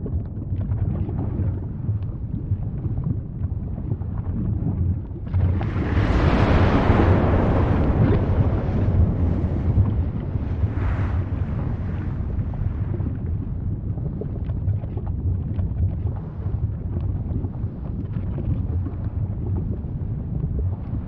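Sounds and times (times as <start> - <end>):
volcano rumbling: 0.0 - 21.0.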